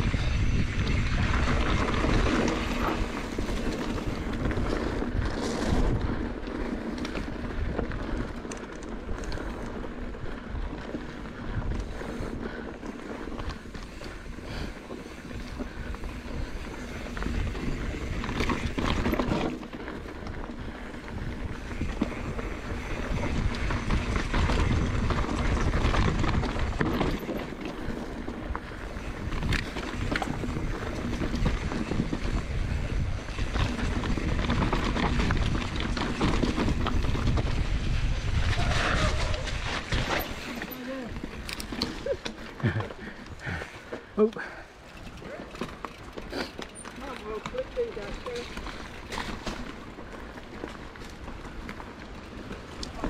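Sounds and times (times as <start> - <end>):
wind rushing over microphone: 0.0 - 43.7
bike knocking and rattling: 0.0 - 53.0
tyre rumble on dirt trail: 0.0 - 53.0.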